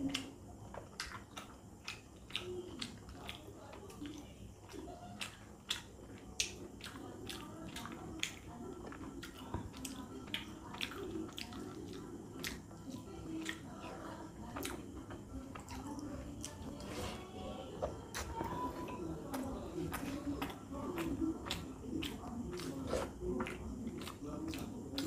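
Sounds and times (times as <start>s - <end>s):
lip smacking and mouth clicks: 0.0s - 16.9s, 17.8s - 25.0s
person chewing food wetly: 0.0s - 25.0s.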